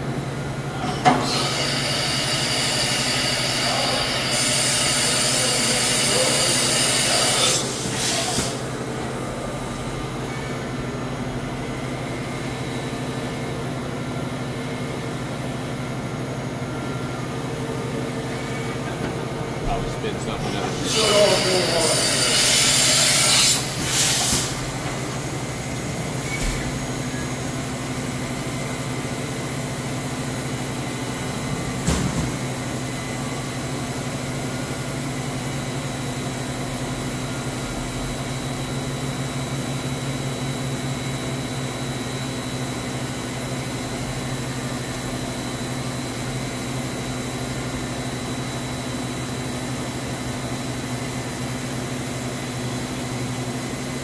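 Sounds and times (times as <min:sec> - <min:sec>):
machining center humming: 0:00.0 - 0:54.0.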